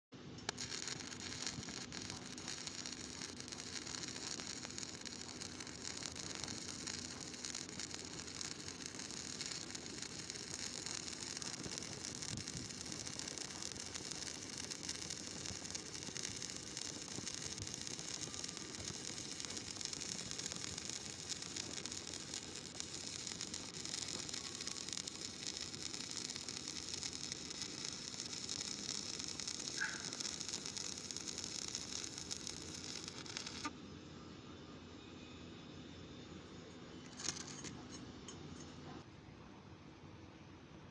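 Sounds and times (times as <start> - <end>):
welding arc crackling hiss: 0.2 - 33.8, 37.0 - 38.9.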